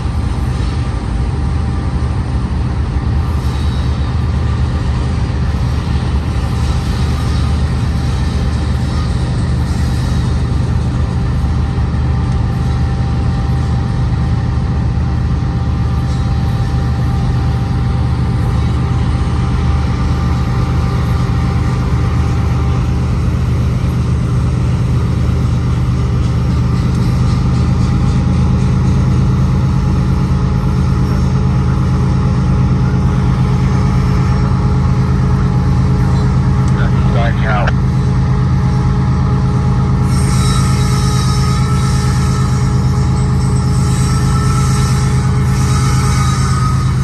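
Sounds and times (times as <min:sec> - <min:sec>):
freight train rolling past: 0:00.0 - 0:47.0.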